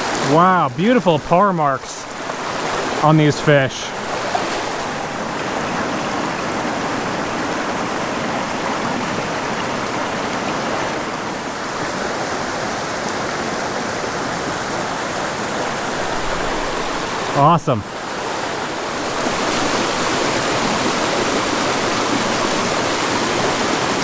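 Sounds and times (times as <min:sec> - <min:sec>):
creek flowing over stones: 0:00.0 - 0:24.0.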